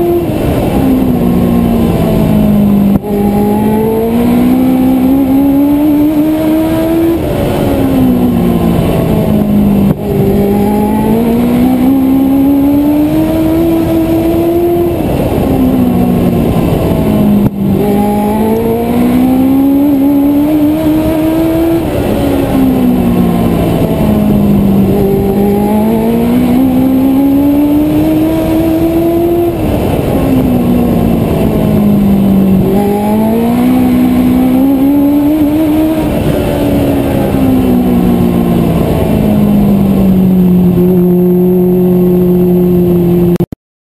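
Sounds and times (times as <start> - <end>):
race car engine accelerating: 0.0 - 43.5.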